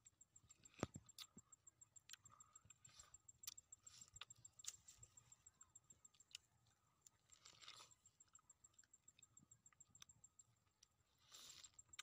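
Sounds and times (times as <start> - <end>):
biting and chewing fruit: 0.0 - 12.0.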